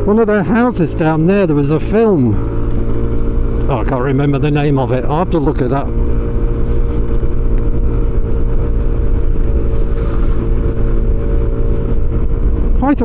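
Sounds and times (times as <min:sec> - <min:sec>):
motorcycle engine cruising: 0:00.0 - 0:13.0
road noise: 0:00.0 - 0:13.0.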